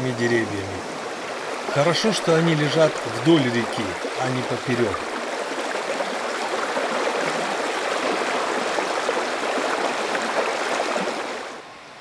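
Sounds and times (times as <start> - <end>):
river water rushing over rocks: 0.0 - 11.7.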